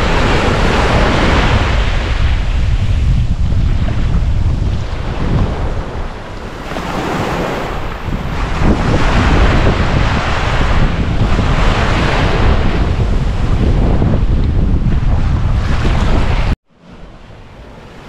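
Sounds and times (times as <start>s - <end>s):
ocean waves breaking on beach: 0.0s - 18.0s
wind buffeting microphone: 0.0s - 18.0s.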